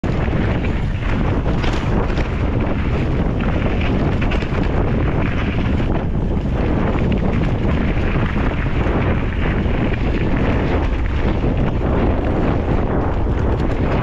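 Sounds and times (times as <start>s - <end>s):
bike clattering: 0.0s - 14.0s
tyres crunching on gravel: 0.0s - 14.0s
wind buffeting microphone: 0.0s - 14.0s.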